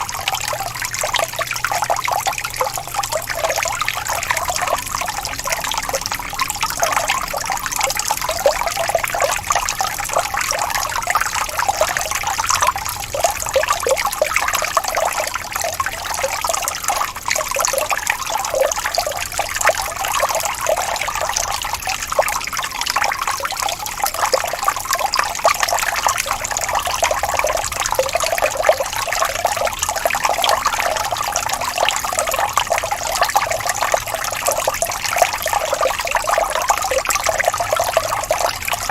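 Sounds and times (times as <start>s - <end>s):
stream of running water: 0.0s - 38.9s.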